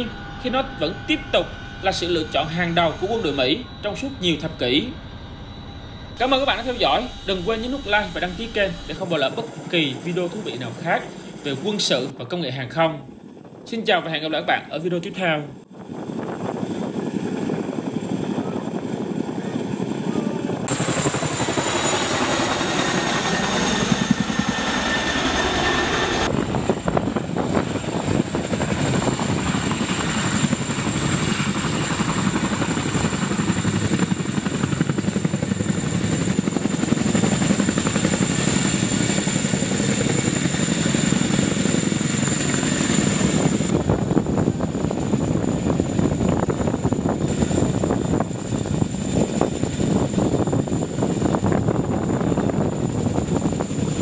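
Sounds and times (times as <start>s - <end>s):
helicopter rotor chop: 0.0s - 54.0s
high turbine whine: 0.0s - 54.0s.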